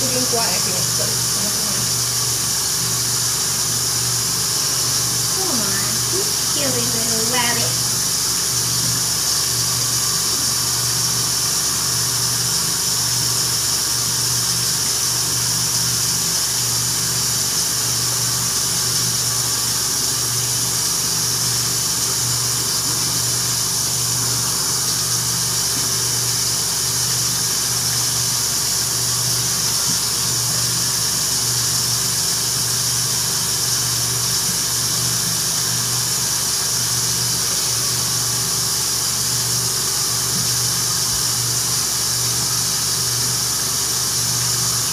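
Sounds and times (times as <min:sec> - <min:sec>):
electric motor hum with hiss: 0:00.0 - 0:44.9.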